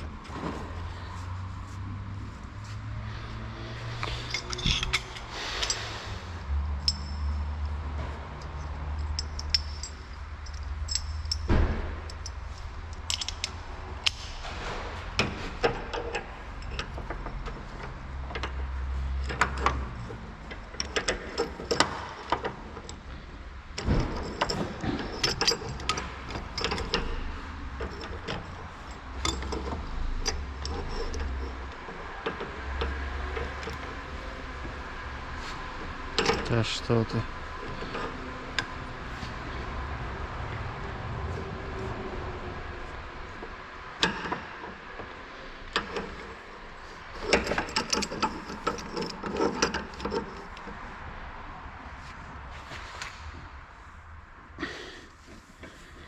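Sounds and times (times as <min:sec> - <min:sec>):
metal tools clinking and rattling: 0:00.0 - 0:39.7, 0:42.8 - 0:51.0.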